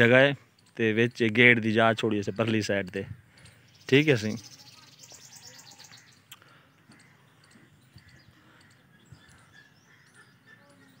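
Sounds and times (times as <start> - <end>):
distant birds chirping: 0.0 - 11.0.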